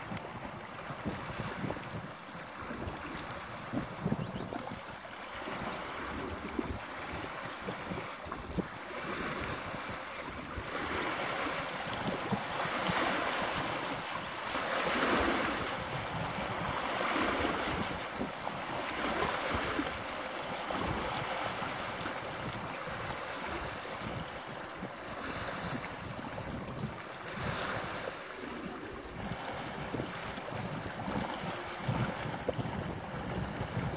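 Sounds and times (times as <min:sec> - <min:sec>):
sea water washing: 0:00.0 - 0:33.9
wind on microphone: 0:00.0 - 0:33.9.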